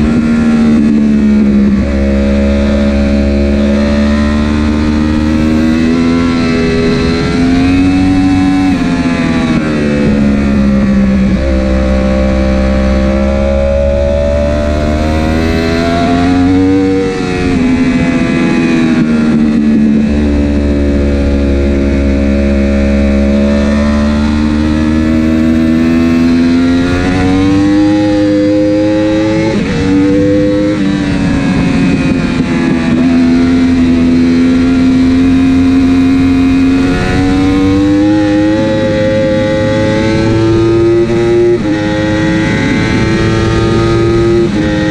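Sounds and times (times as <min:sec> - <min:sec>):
low rumble: 0:00.0 - 0:41.6
motorcycle engine revving at speed: 0:00.0 - 0:44.9.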